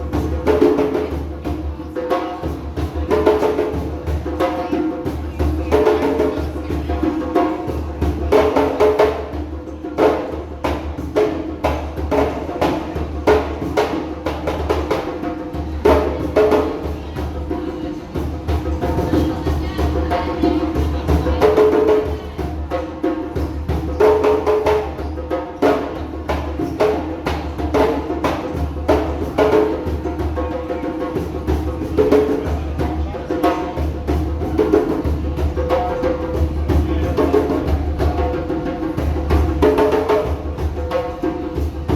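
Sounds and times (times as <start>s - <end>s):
hand drums playing fast rhythm: 0.0s - 41.9s.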